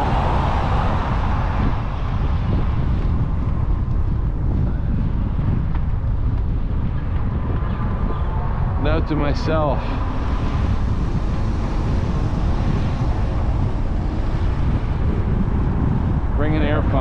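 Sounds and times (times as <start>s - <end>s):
e-bike rolling on pavement: 0.0s - 17.0s
wind rumbling on microphone: 0.0s - 17.0s.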